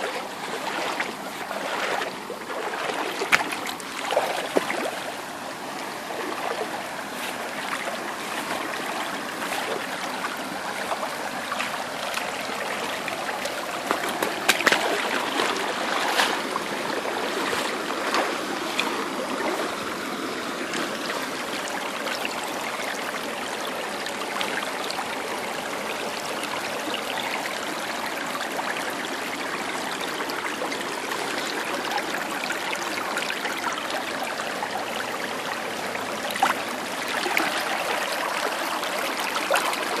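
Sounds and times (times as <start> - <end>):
creek water flowing over stones: 0.0 - 40.0.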